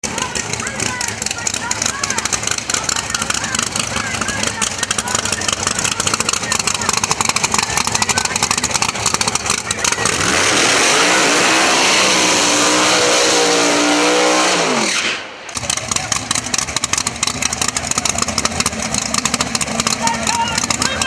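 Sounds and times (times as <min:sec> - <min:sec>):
choppy pulsing engine rumble: 0:00.0 - 0:12.7, 0:15.4 - 0:21.0
race car engine revving: 0:00.0 - 0:21.0.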